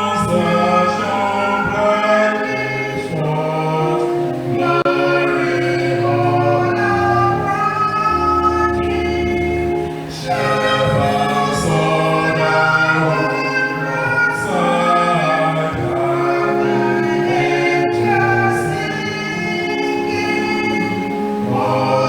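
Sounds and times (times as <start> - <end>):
choir singing a carol: 0.0 - 22.0.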